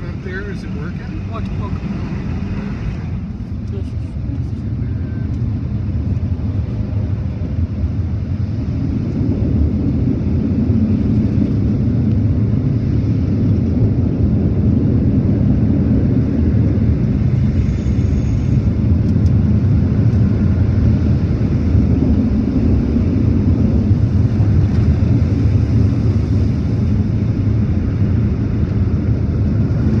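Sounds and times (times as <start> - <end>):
car wash machinery rumble: 0.0 - 30.0.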